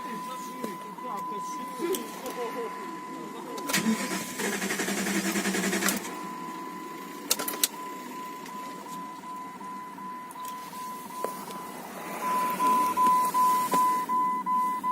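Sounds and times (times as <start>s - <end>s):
car warning chime beeping: 0.0s - 14.9s.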